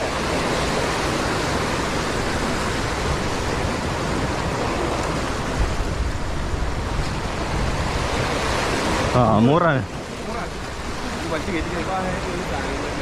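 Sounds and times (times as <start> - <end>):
waves washing over boulders: 0.0 - 13.0.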